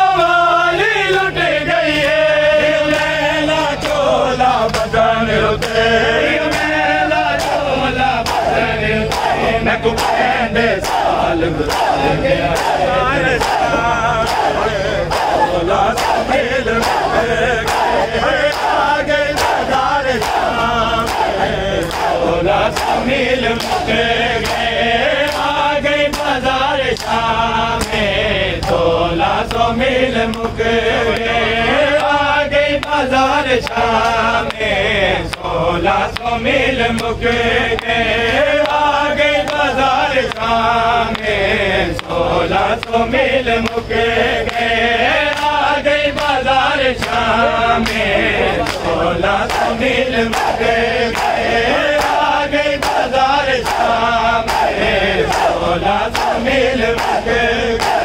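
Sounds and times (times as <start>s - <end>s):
men chanting in unison: 0.0s - 58.0s
rhythmic chest slapping: 0.0s - 58.0s.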